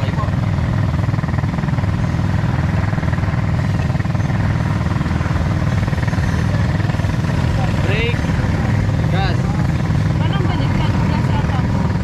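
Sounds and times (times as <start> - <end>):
small atv engine running: 0.0 - 12.0.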